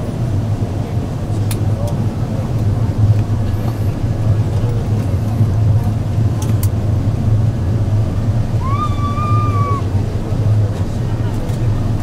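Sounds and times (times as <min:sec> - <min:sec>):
airliner cabin engine and airflow noise: 0:00.0 - 0:12.0.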